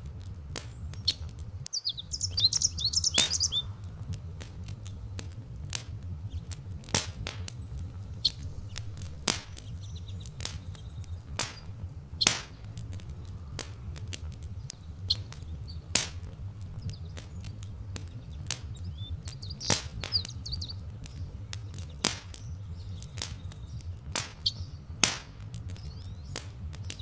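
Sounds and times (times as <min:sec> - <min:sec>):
log fire crackling and popping: 0:00.0 - 0:27.0
low rumble: 0:00.0 - 0:27.0
small birds chirping: 0:00.0 - 0:27.0.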